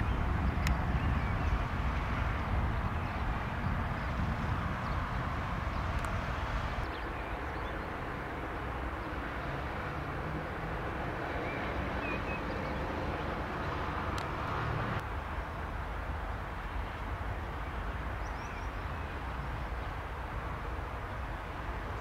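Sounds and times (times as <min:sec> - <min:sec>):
distant jet engines humming: 0:00.0 - 0:22.0.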